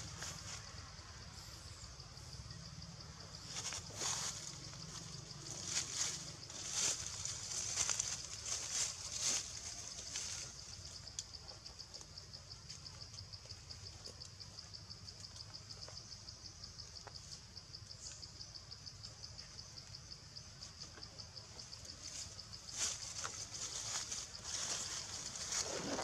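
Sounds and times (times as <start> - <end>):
insect pulsing trill: 0.0 - 26.0.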